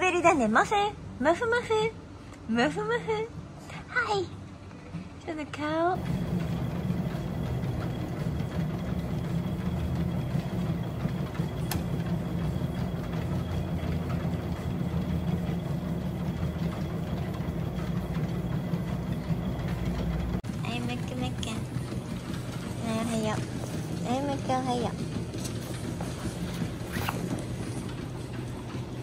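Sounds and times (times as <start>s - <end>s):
treadmill motor hum: 0.0s - 29.0s.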